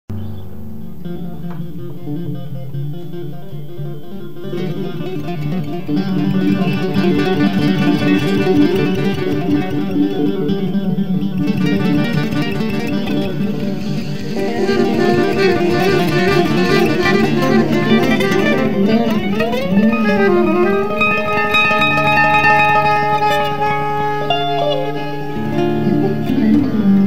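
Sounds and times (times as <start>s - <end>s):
acoustic and electric guitars: 0.1s - 27.0s
saxophone: 1.1s - 27.0s.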